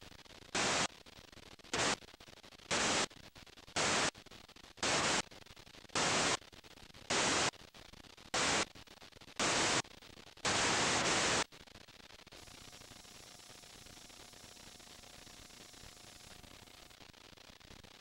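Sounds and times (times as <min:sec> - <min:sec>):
white-noise static bursts: 0:00.0 - 0:18.0.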